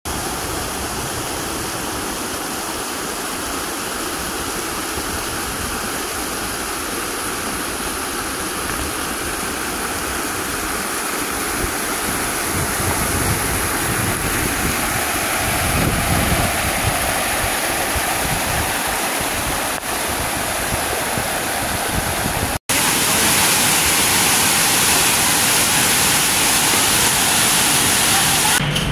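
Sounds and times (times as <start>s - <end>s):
waterfall rushing: 0.1s - 28.6s.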